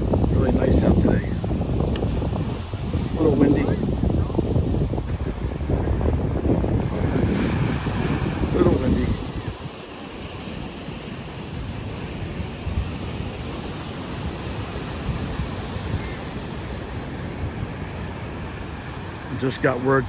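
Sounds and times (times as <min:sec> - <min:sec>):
ocean surf washing on beach: 0:00.0 - 0:20.0
wind buffeting microphone: 0:00.0 - 0:20.0.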